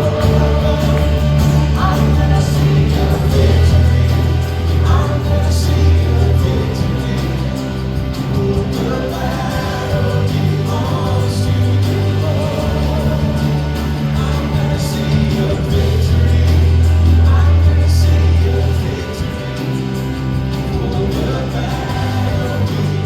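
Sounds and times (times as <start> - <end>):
group singing: 0.0 - 23.0
sustained low bass notes: 0.0 - 23.0.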